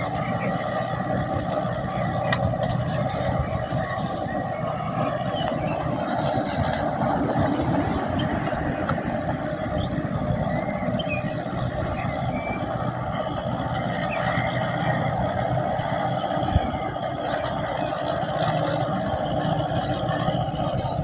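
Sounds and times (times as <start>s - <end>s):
ferry engine humming: 0.0s - 21.0s.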